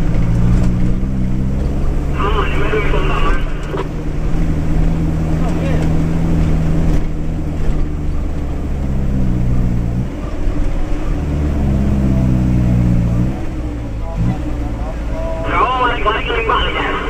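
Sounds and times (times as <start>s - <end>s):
truck engine from inside cab: 0.0s - 17.0s.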